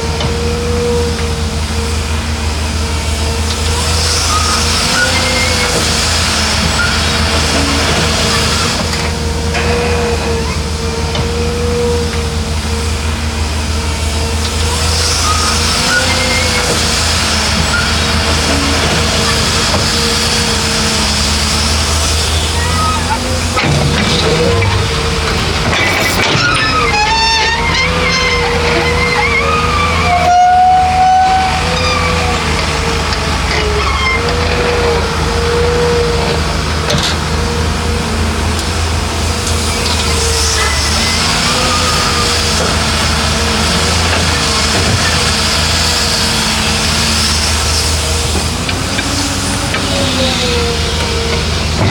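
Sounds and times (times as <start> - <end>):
diesel machinery engine rumble: 0.0 - 51.9
machinery whine: 0.0 - 51.9.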